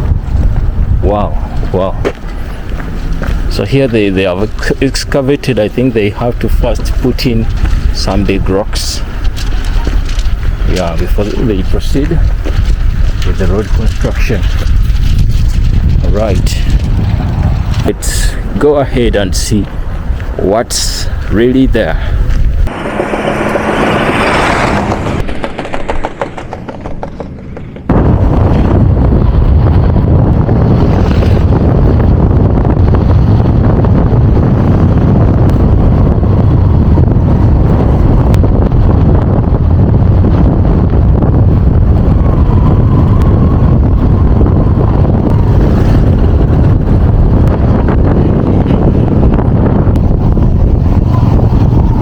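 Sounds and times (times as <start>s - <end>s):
vehicle low rumble: 0.0s - 52.0s
wind buffeting microphone: 0.0s - 52.0s.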